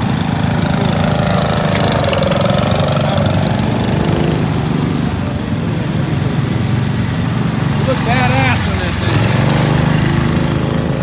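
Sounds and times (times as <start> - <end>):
small engines running: 0.0 - 11.0.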